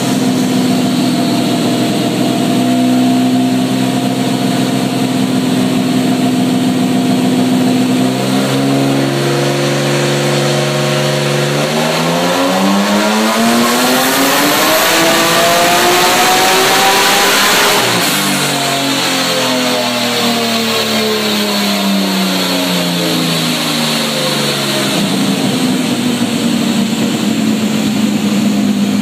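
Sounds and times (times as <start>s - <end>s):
car engine revving on dyno: 0.0s - 29.0s.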